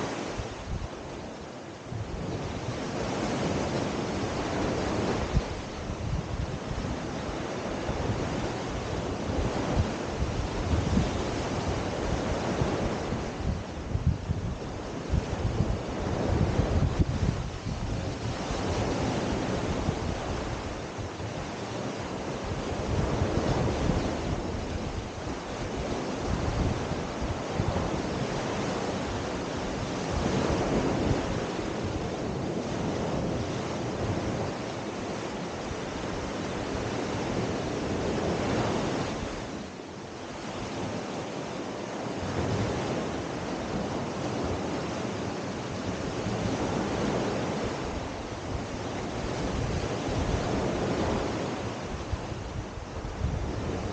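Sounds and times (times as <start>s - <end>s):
waves breaking on sandy beach: 0.0s - 53.9s.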